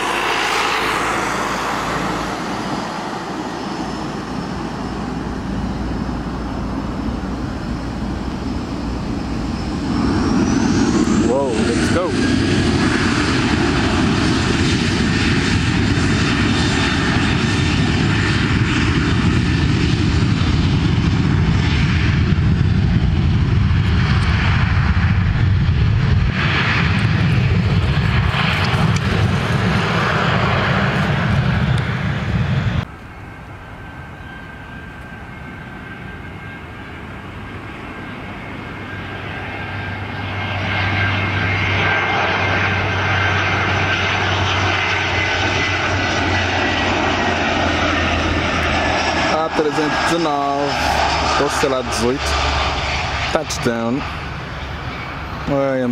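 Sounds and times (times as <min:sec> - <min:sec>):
airliner engines whining on approach: 0:00.0 - 0:55.9
jet engines at takeoff power: 0:00.0 - 0:55.9.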